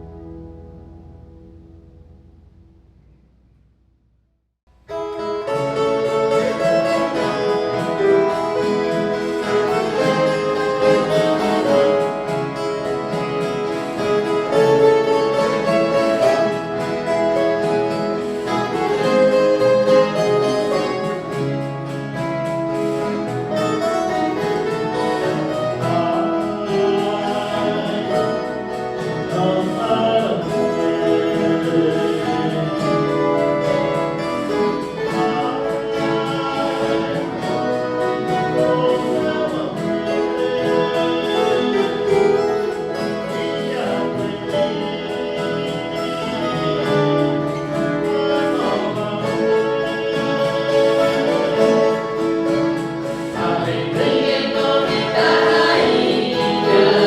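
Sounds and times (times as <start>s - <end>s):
plucked guitar ensemble playing chords: 0.0s - 3.5s, 4.7s - 57.0s.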